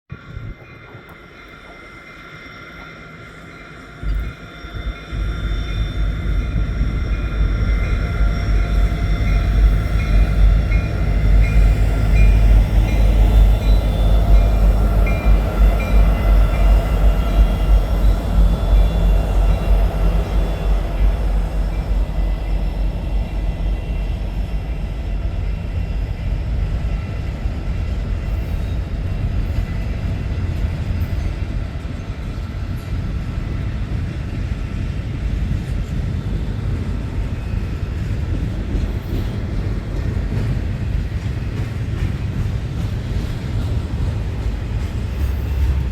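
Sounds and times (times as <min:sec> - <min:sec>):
diesel locomotives rumbling: 0:00.1 - 0:45.9
train cars rolling on rails: 0:00.1 - 0:45.9.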